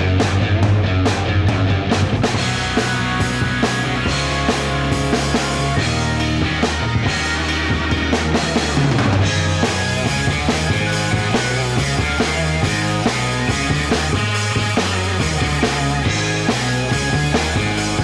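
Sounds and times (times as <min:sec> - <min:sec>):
rock music with drums and bass: 0:00.0 - 0:18.0.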